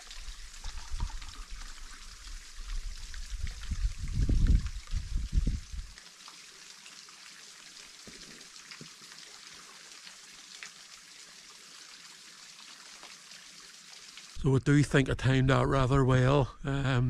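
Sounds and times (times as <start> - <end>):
trickling water hiss: 0.0 - 14.4.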